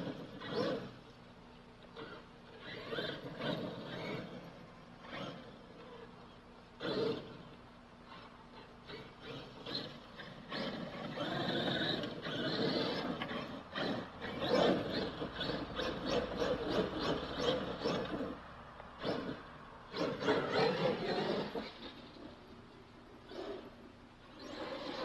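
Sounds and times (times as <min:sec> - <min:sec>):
rc truck tyres scrabbling in dirt: 0:00.0 - 0:01.2, 0:01.8 - 0:18.4, 0:19.0 - 0:25.0.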